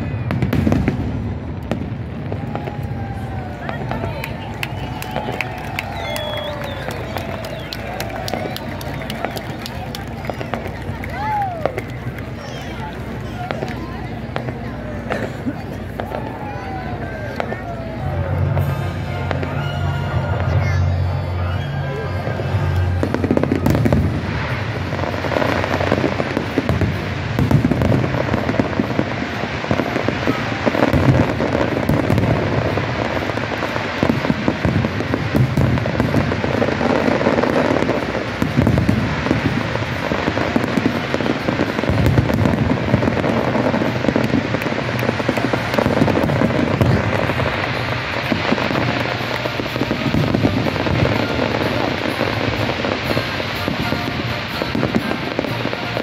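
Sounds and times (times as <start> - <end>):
fireworks booming and crackling: 0.0 - 56.0.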